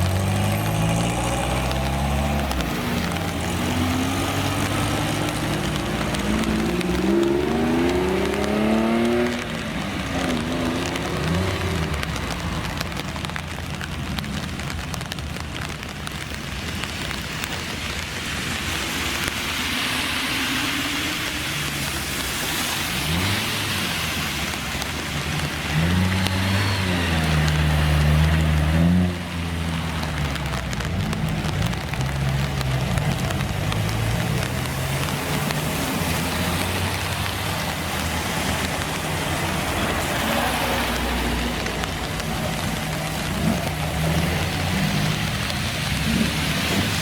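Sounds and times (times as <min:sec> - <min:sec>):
car engine revving: 0:00.0 - 0:14.5, 0:21.2 - 0:47.0.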